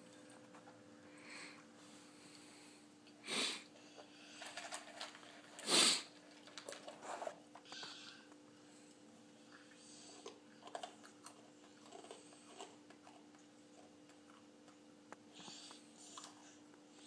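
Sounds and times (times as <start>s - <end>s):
child chewing dry cereal: 1.5s - 17.0s.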